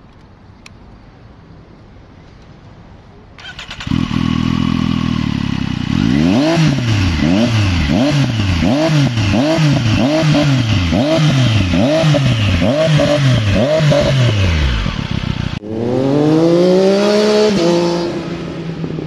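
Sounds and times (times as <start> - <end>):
motorcycle engine revving: 3.4 - 19.0.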